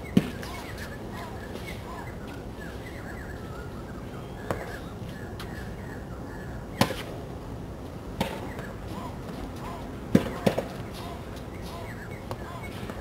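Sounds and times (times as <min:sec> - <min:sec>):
birds chirping faintly: 0:00.0 - 0:07.0, 0:08.3 - 0:13.0.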